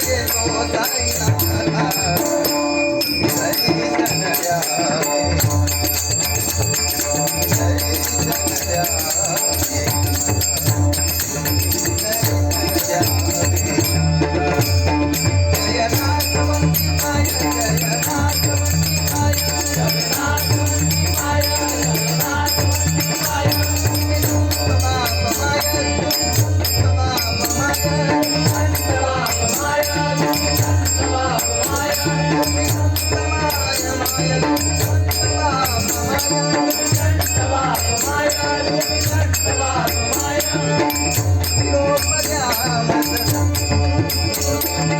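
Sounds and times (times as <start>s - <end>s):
jingling hand percussion: 0.0s - 44.9s.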